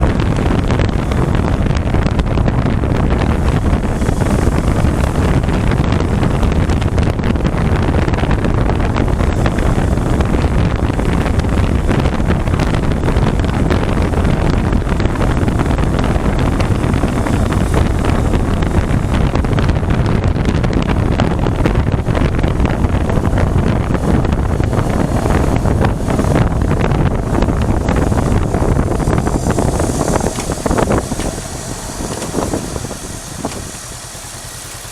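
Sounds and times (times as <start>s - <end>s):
motorcycle engine: 0.0s - 34.9s
road noise: 0.0s - 34.9s
wind buffeting microphone: 0.0s - 34.9s.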